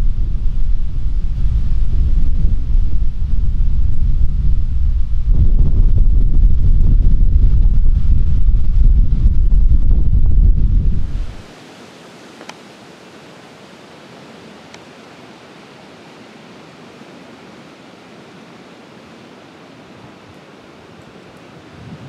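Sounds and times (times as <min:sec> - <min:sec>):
rain: 0:00.0 - 0:22.0
wind: 0:00.0 - 0:22.0.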